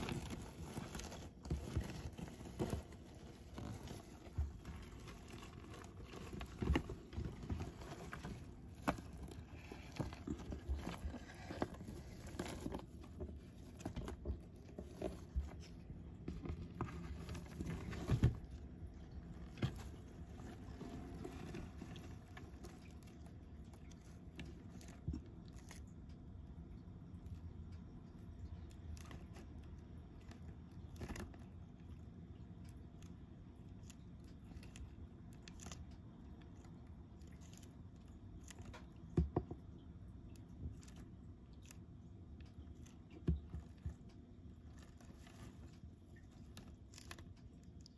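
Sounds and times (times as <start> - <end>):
tortoise crunching a leaf: 0.0 - 47.9.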